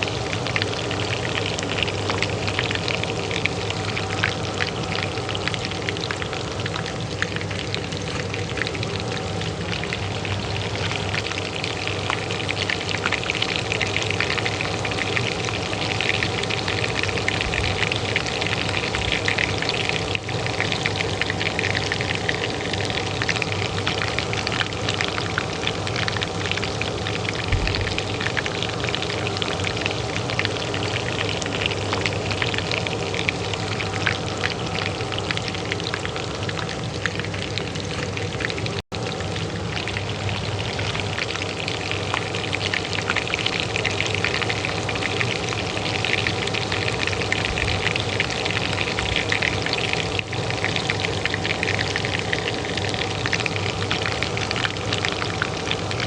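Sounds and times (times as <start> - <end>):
hot oil frying in a pan: 0.0 - 56.0
range hood fan humming: 0.0 - 56.0.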